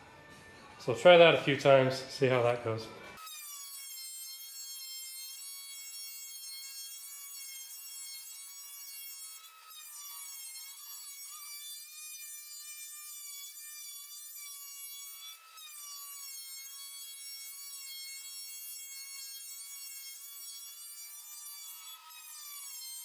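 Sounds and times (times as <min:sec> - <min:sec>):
thickness planer whining: 0:01.0 - 0:23.0.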